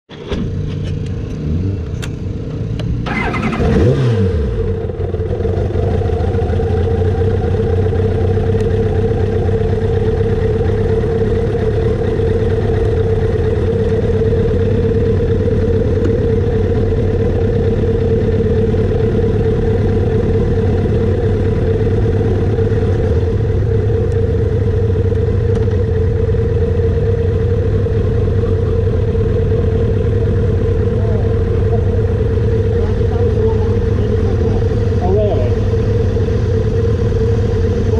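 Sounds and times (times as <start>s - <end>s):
motorcycle engine revving and idling: 0.1s - 37.9s.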